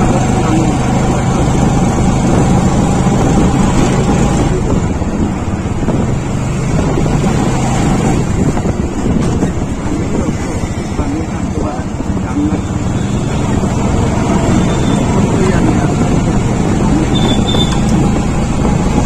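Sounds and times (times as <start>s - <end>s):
engine hum: 0.0s - 19.0s
road noise: 0.0s - 19.0s
wind noise on microphone: 0.0s - 19.0s.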